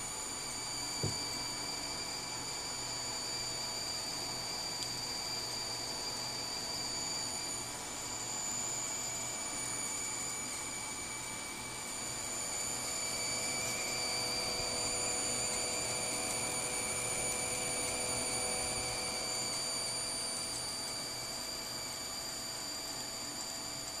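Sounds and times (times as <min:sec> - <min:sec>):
power supply electric buzz: 0:00.0 - 0:24.0.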